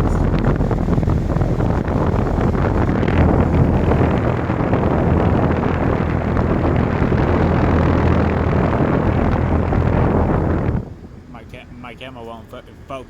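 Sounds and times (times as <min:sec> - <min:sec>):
compressor humming low: 0:00.0 - 0:13.0
condenser fan blowing: 0:00.0 - 0:13.0.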